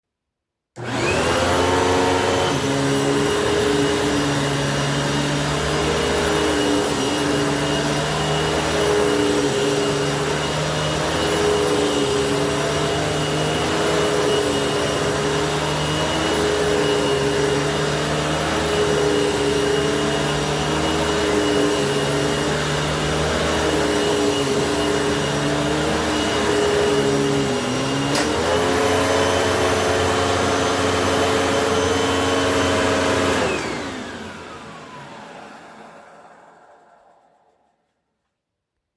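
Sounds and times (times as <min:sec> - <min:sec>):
vacuum cleaner motor whining: 0:00.8 - 0:37.9.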